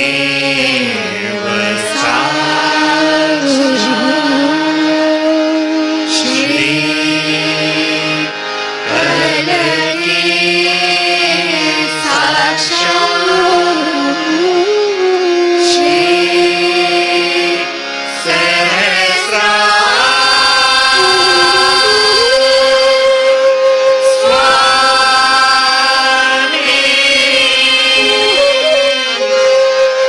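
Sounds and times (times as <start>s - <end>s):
voices singing a hymn: 0.0s - 4.8s, 6.1s - 14.4s, 15.6s - 23.0s, 24.0s - 29.2s.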